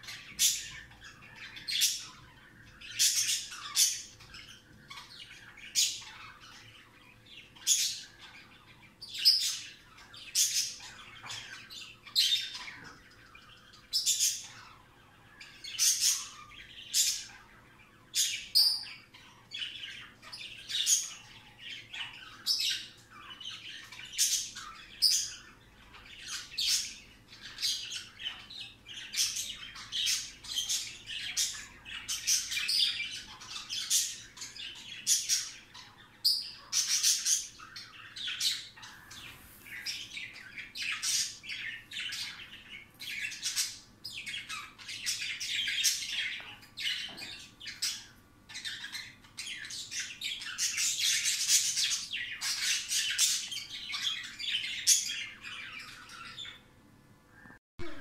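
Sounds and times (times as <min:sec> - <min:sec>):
budgies chirping: 0:00.0 - 0:58.0.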